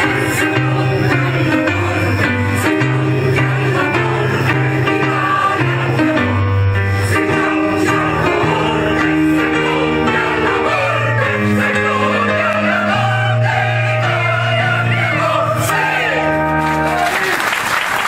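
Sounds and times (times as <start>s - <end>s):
choir singing: 0.0s - 16.6s
instrumental accompaniment: 0.0s - 17.3s.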